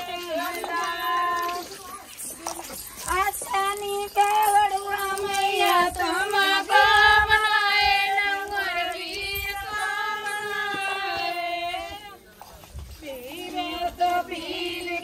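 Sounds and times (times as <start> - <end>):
women singing slow song: 0.0 - 1.6, 3.1 - 12.2, 13.0 - 15.0.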